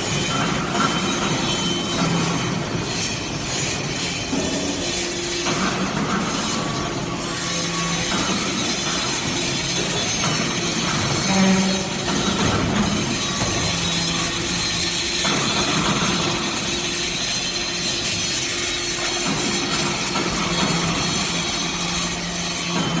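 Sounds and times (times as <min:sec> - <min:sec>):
industrial baler machine humming: 0:00.0 - 0:23.0.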